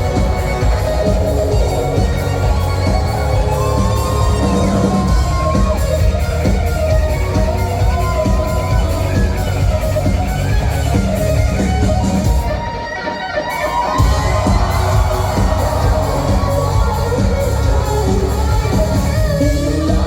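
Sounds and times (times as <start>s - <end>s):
electric guitar line: 0.0s - 20.0s
rock band playing: 0.0s - 20.0s.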